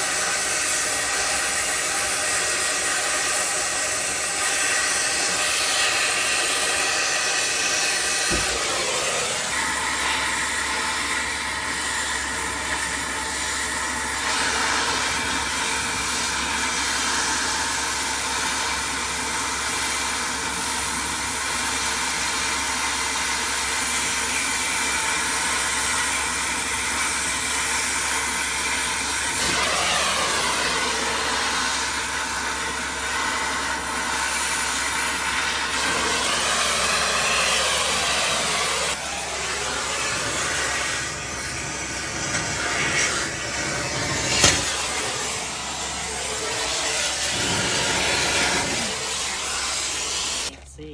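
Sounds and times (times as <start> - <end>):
cutting torch hissing: 0.0 - 50.9.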